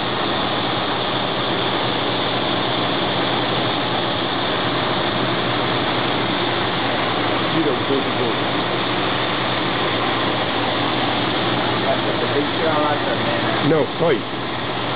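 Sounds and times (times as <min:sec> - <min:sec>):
engine running steadily: 0:00.0 - 0:14.9.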